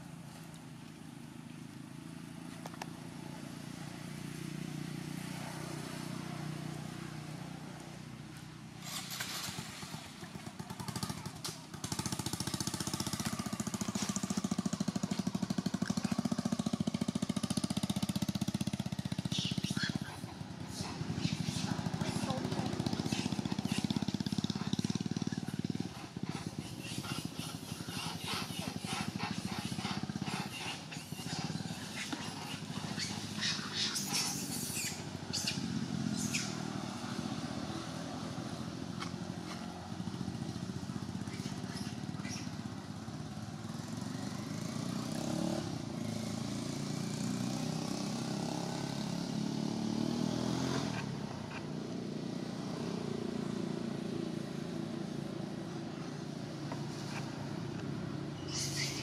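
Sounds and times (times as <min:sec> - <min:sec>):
engine rumbling: 0:00.0 - 0:59.0.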